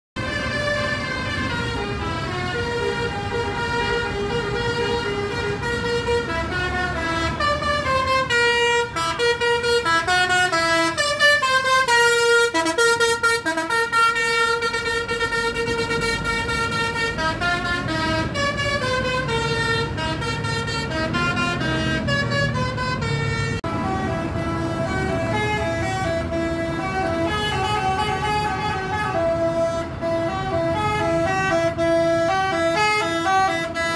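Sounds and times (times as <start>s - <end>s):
bus musical horn playing tune: 0.2s - 33.9s
low engine rumble: 0.2s - 33.9s.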